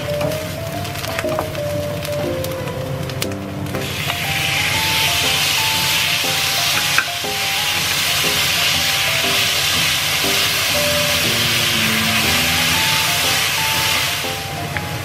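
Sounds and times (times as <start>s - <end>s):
light background music: 0.0s - 15.0s
vegetables sizzling in frying pan: 0.0s - 15.0s.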